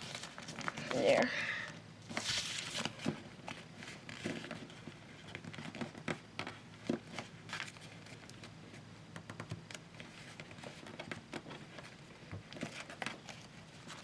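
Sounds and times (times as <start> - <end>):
paper crinkling: 0.0 - 1.0, 2.1 - 8.8, 9.7 - 14.0.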